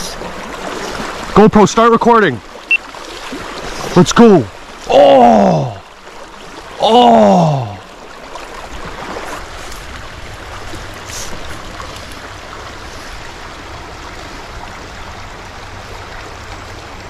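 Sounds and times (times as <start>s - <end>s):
creek running over gravel: 0.0s - 17.0s.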